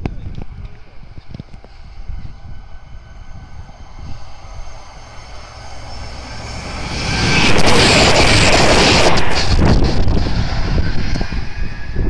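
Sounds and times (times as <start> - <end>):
diesel train passing: 0.0 - 12.0
wind buffeting microphone: 0.0 - 12.0.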